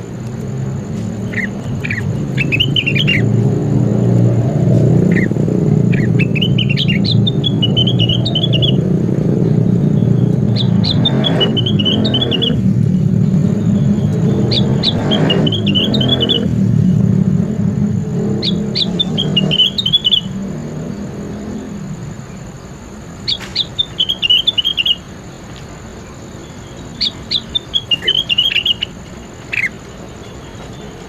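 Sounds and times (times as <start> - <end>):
songbird singing trills: 0.0 - 31.0.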